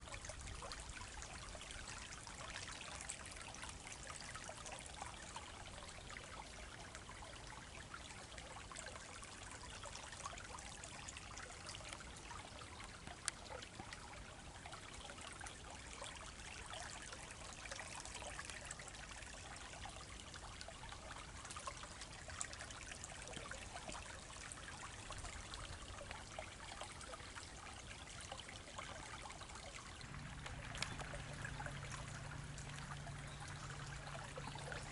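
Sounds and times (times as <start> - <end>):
stream trickling: 0.0 - 34.9.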